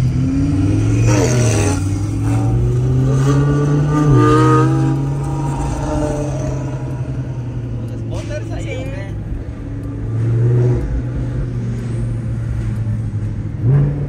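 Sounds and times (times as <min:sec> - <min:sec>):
sports car engine revving: 0:00.0 - 0:14.0.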